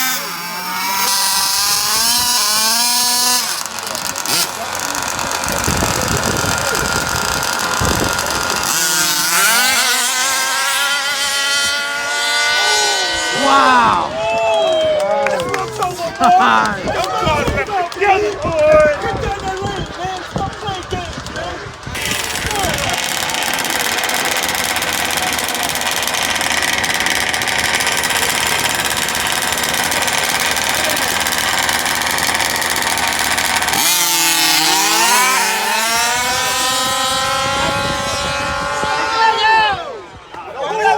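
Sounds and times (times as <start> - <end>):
small two-stroke engine revving: 0.0 - 14.3, 15.6 - 40.2.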